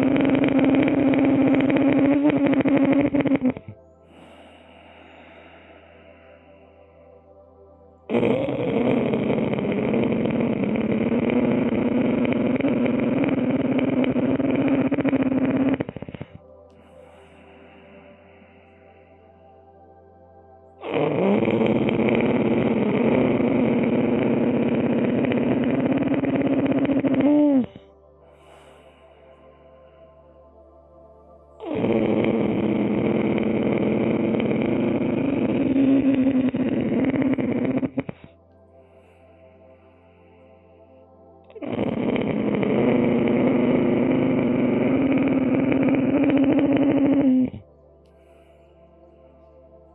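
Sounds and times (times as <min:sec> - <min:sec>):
person breathing with raspy throat: 0:00.0 - 0:49.9.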